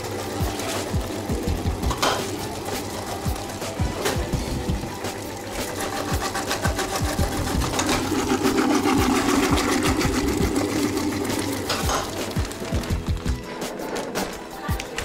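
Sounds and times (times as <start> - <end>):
electric vegetable cutter whirring: 0.0 - 14.2.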